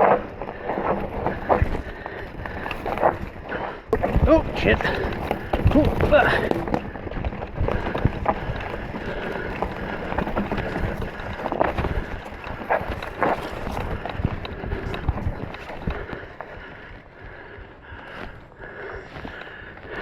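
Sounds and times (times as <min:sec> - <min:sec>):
mountain bike rattling on rocks: 0:00.0 - 0:20.0.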